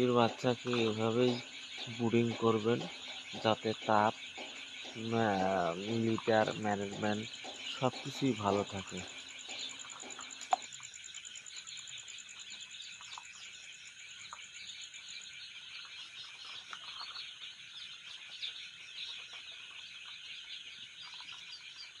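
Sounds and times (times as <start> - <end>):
baby chicks peeping: 0.0 - 22.0.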